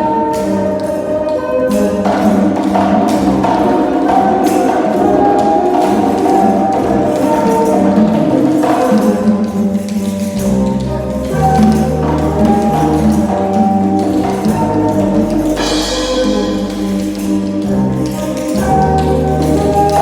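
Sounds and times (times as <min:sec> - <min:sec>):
percussion music: 0:00.0 - 0:20.0.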